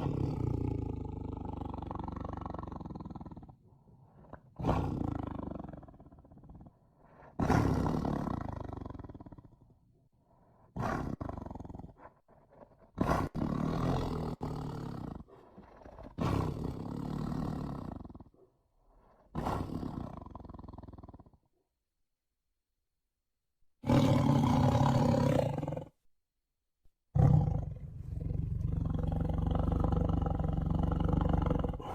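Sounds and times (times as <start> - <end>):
tiger growling and roaring: 0.0 - 9.8, 10.7 - 21.4, 23.8 - 26.0, 27.1 - 31.9.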